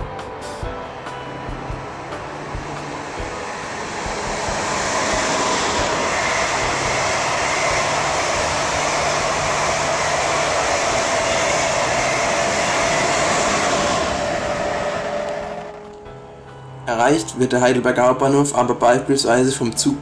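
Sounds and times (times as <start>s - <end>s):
high-speed train rushing past: 0.0s - 20.0s
train whine: 0.0s - 20.0s.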